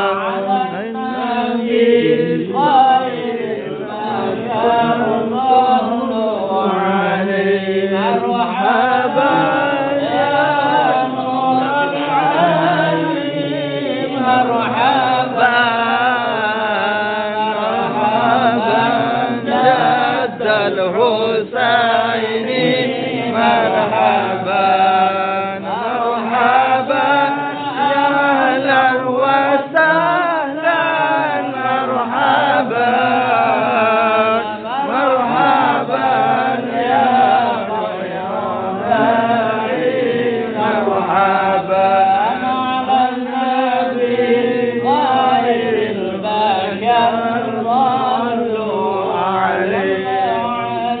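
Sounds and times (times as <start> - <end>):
men chanting together: 0.0 - 51.0.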